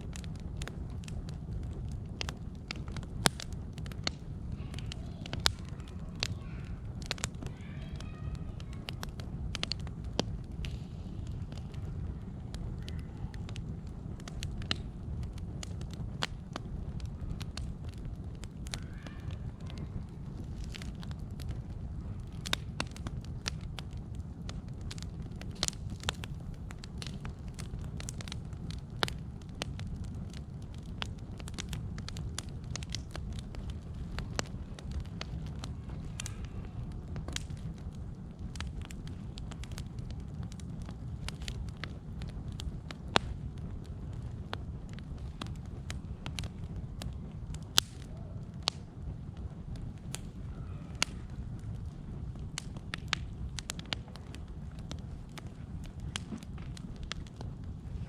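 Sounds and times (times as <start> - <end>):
fire crackling and popping: 0.0 - 58.0
low rumble: 8.3 - 58.0.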